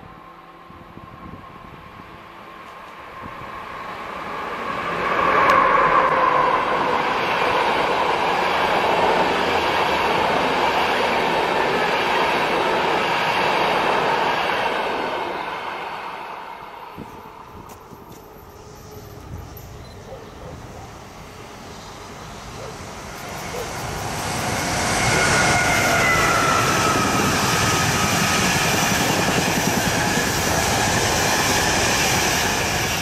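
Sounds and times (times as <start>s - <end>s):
train rolling past: 0.0s - 33.0s.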